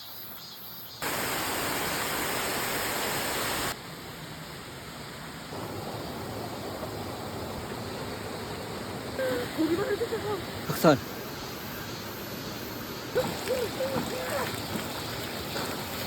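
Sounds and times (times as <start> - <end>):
rushing stream water: 1.0 - 16.0.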